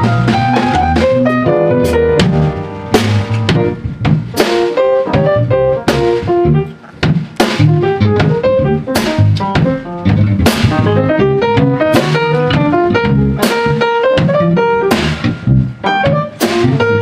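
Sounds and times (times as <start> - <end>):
drum kit: 0.0 - 17.0
electric bass playing: 0.0 - 17.0.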